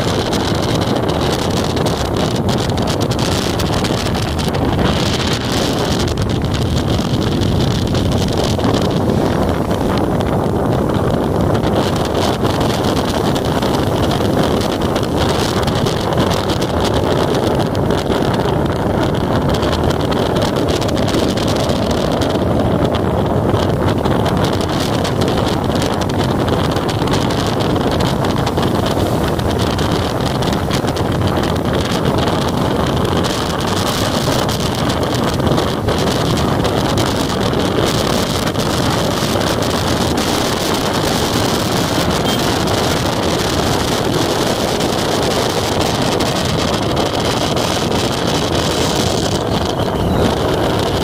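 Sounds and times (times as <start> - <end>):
motorcycle engine cruising: 0.0 - 51.0
wind noise on microphone: 0.0 - 51.0.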